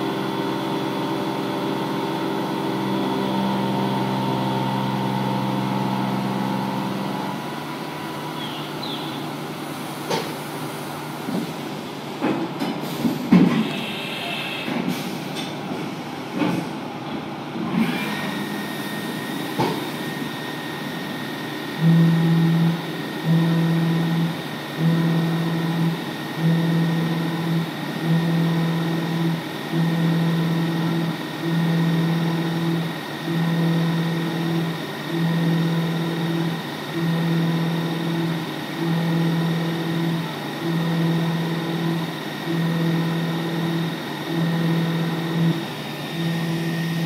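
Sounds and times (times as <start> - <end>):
milling machine high whine: 0.0 - 12.0, 17.6 - 47.0.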